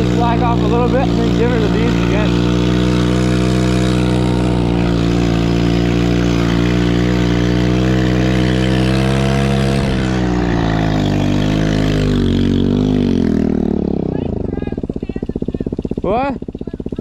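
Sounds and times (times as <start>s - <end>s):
small engine at high revs: 0.0s - 17.0s.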